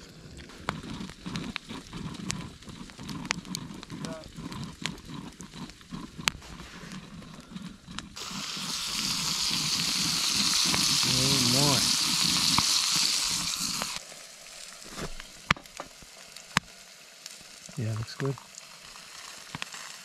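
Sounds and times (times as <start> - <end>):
burning wood ticking: 0.0 - 20.0
sausages sizzling: 0.0 - 20.0.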